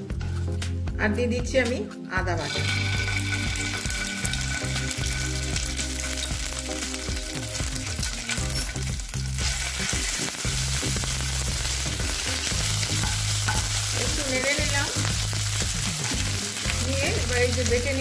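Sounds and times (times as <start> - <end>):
paste sizzling in hot fat: 2.5 - 18.0.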